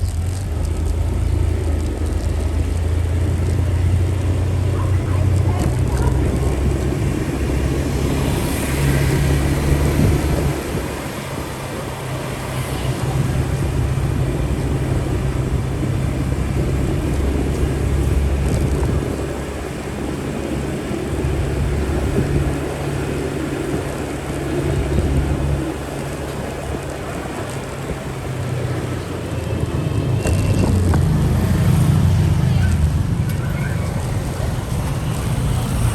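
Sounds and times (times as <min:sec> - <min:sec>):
motorcycle engine rumbling: 0:00.0 - 0:35.9.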